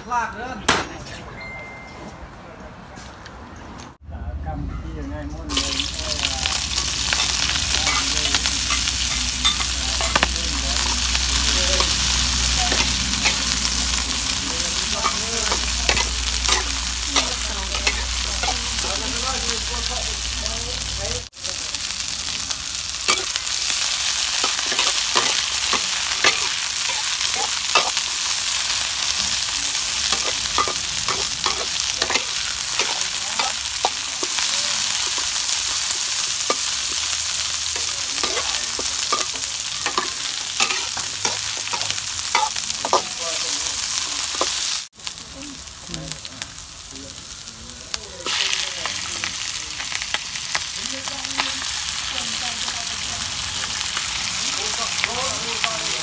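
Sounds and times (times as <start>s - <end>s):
vegetables sizzling in hot oil: 5.5s - 56.0s.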